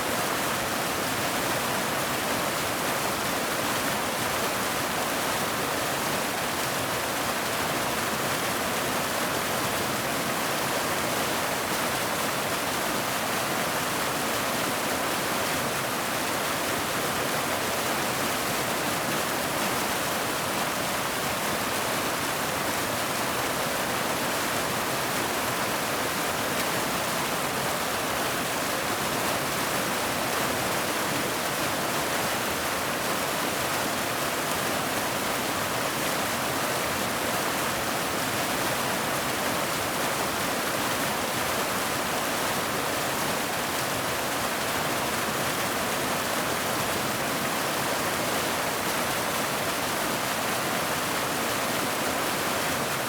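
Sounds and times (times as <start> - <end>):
waterfall pouring and splashing: 0.0 - 53.0.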